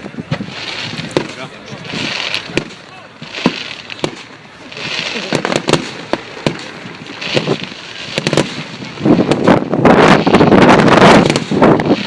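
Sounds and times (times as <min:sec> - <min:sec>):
crackling firework pops: 0:00.0 - 0:12.0
firework bangs: 0:00.0 - 0:12.0
firework hiss: 0:00.0 - 0:12.0.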